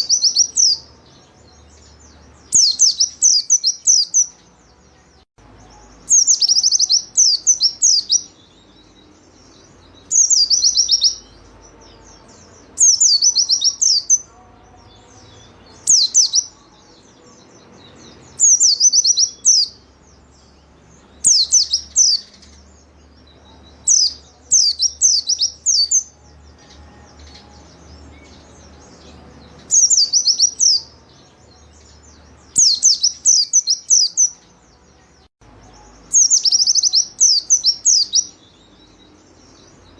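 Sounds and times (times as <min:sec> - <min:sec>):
small bird singing rapid phrases: 0:00.0 - 0:39.9.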